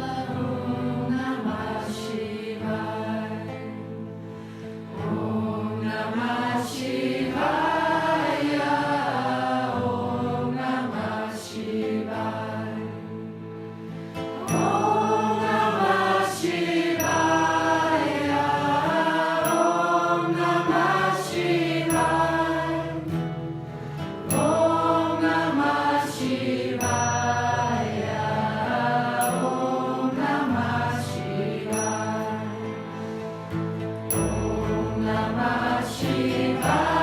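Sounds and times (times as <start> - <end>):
sung melodic chant: 0.0 - 37.0.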